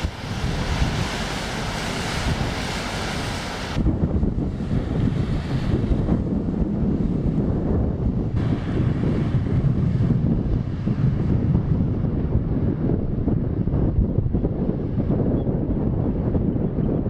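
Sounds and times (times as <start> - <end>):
low wind rumble: 0.0 - 17.0
wind buffeting microphone: 0.0 - 17.0.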